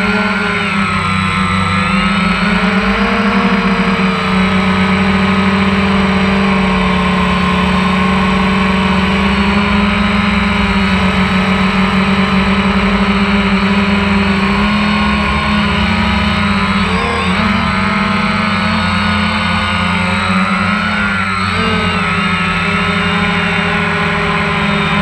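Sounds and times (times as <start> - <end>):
drone motors whirring: 0.0 - 25.0.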